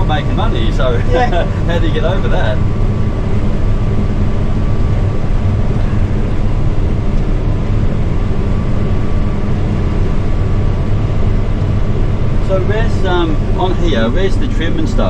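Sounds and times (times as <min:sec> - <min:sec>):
engine drone: 0:00.0 - 0:15.0
thin steady whine: 0:00.0 - 0:15.0.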